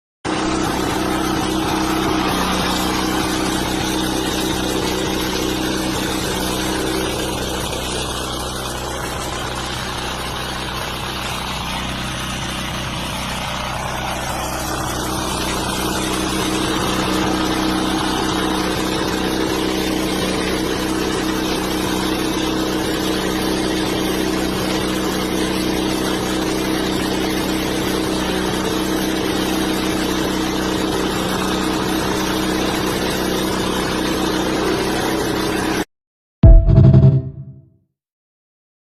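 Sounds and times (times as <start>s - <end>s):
cultivator engine running: 0.3s - 35.8s.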